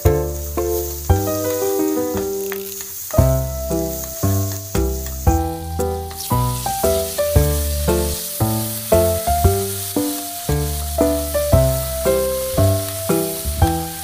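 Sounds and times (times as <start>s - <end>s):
food sizzling in frying pan: 0.0s - 14.0s
instrumental background music: 0.0s - 14.0s.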